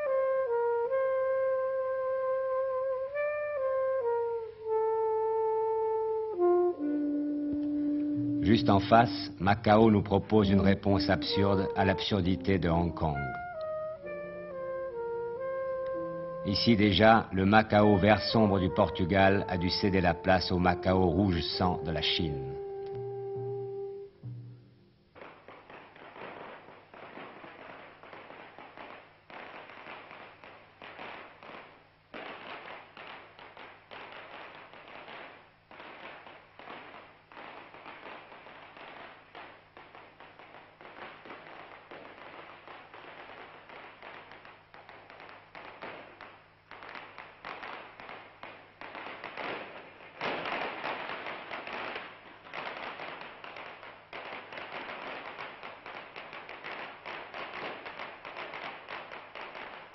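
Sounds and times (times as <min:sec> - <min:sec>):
firecrackers crackling: 0:00.0 - 0:59.9.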